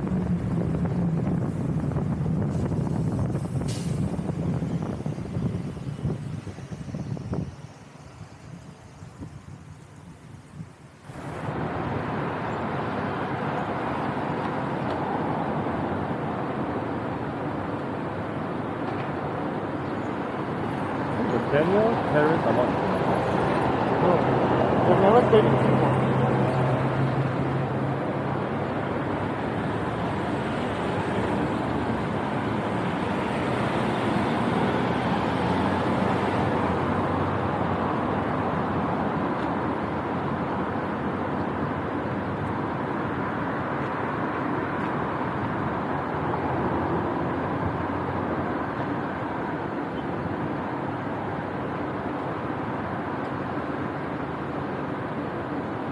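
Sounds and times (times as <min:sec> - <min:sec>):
wind and road noise rushing: 0:00.0 - 0:55.9.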